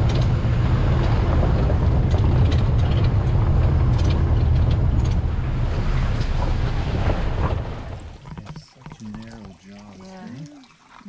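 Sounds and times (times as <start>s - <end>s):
vehicle engine rumbling: 0.0s - 9.7s.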